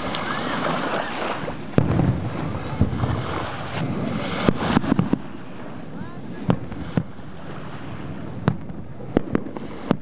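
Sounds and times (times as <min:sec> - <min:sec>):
distant fireworks bang: 0:00.0 - 0:10.0
surf washing on shore: 0:00.0 - 0:10.0.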